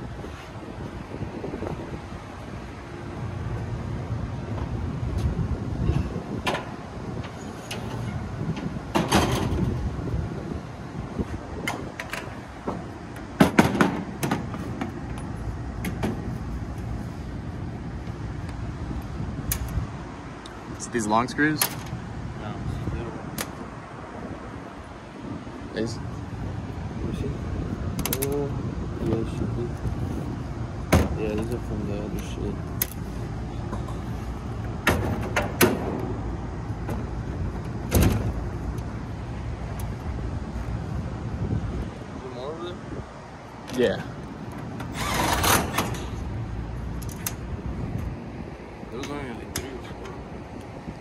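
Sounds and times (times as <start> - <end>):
steady low rumble: 0.0 - 13.4, 14.0 - 44.9, 45.7 - 51.0.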